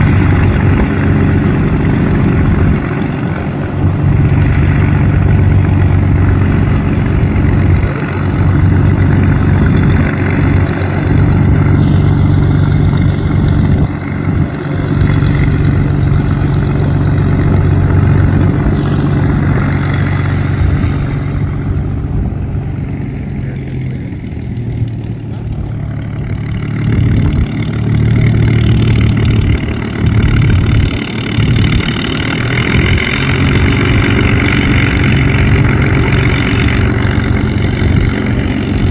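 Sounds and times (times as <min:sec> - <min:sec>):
piston aircraft engine drone: 0:00.0 - 0:38.9.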